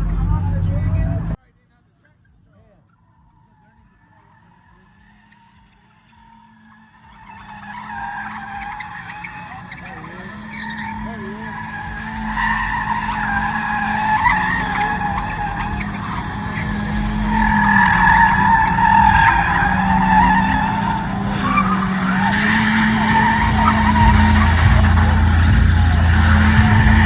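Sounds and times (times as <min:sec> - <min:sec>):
car engine running: 0:00.0 - 0:27.0
car tyres squealing: 0:00.0 - 0:27.0.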